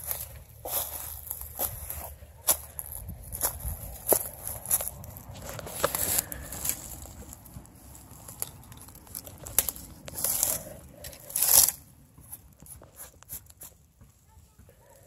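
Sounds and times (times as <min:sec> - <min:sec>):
dry grass and moss rustling: 0:00.0 - 0:13.9.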